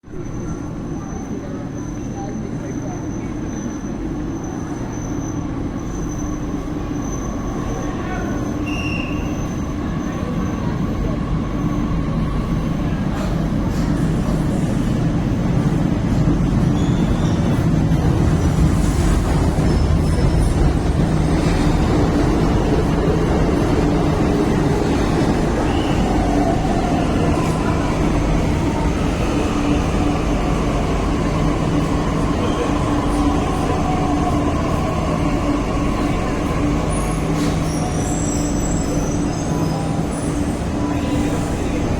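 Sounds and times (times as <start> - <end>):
train rumble and hum: 0.0 - 41.9.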